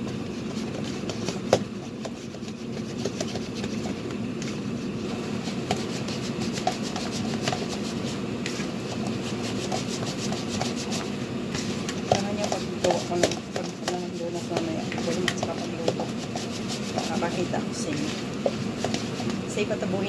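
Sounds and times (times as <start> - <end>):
dough squishing in plastic bowl: 0.0 - 20.0
low background hum: 0.0 - 20.0.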